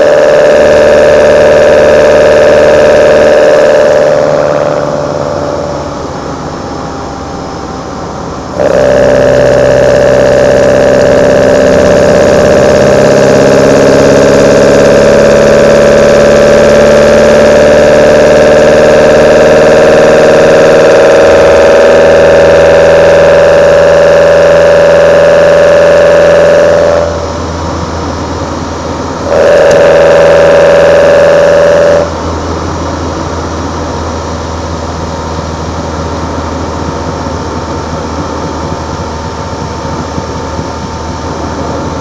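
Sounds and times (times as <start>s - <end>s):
car engine revving high: 0.0s - 42.0s
engine idling rumble: 0.0s - 42.0s.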